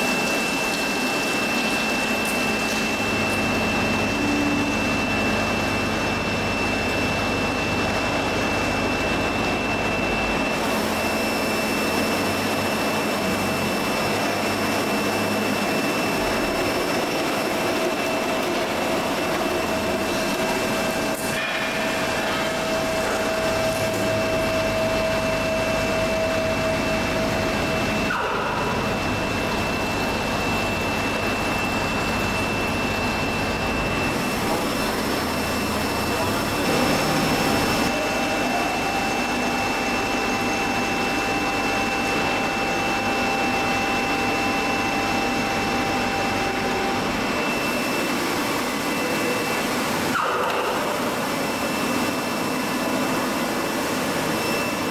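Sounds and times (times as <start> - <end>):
milling machine high whine: 0.0 - 54.9.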